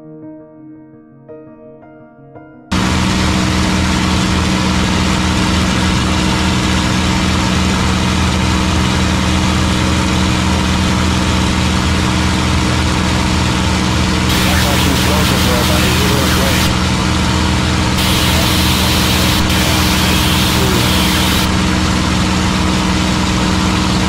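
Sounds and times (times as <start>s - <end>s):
propeller aircraft engine drone: 2.7s - 24.0s.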